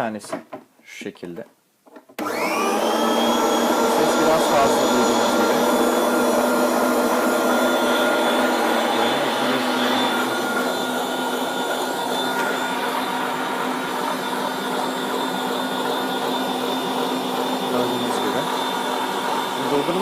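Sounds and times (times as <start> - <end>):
meat grinder motor whine: 2.2 - 20.0.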